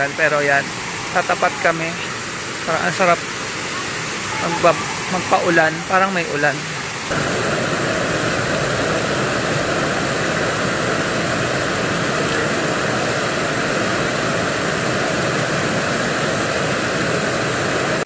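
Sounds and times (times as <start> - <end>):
fountain water falling onto pool: 0.0 - 18.0.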